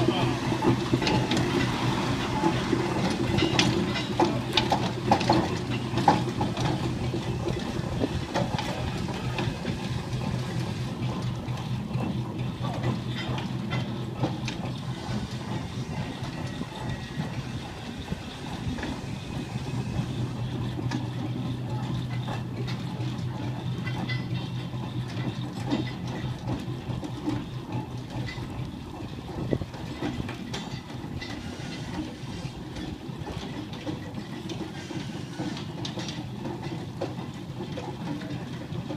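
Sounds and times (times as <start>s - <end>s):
steam engine exhaust chuffing: 0.0s - 38.9s.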